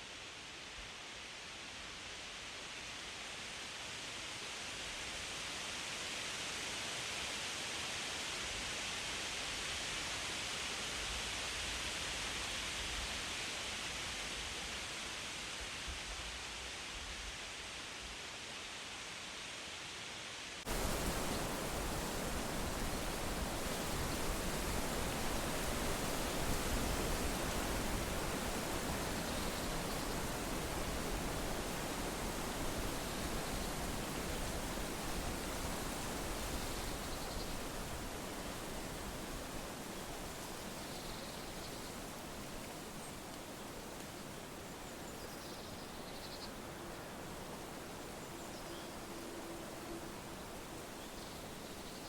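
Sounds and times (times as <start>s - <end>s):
wind rushing through leaves: 0.0s - 52.0s.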